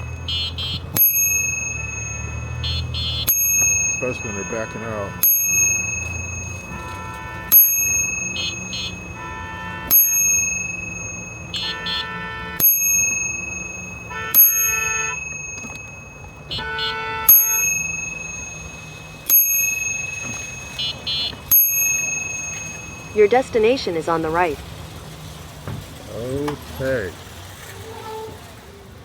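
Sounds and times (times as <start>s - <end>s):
bike horn honks: 0.0s - 24.7s
bicycle bell ringing: 0.0s - 25.7s.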